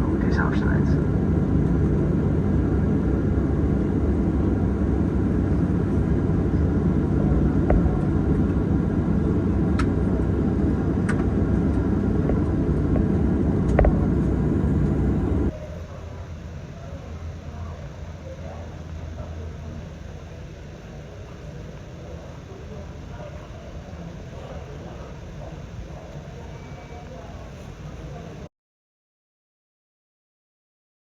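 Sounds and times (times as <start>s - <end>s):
airplane cabin rumble: 0.0s - 28.5s.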